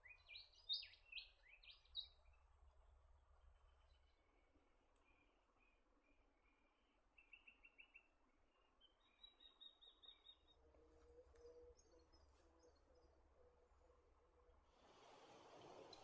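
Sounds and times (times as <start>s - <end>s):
wild birdsong repeated notes: 0.0s - 16.0s.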